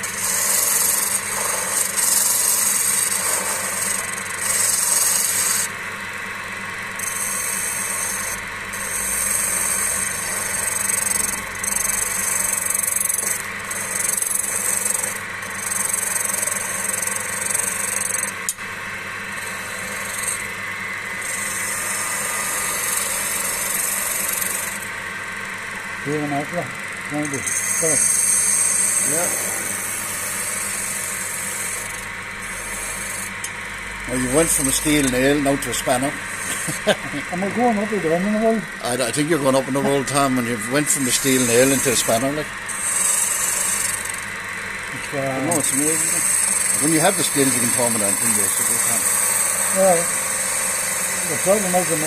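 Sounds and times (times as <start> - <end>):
tool scraping spinning wood: 0.0 - 5.8, 6.9 - 18.6, 19.2 - 52.0
wood lathe humming: 0.0 - 52.0.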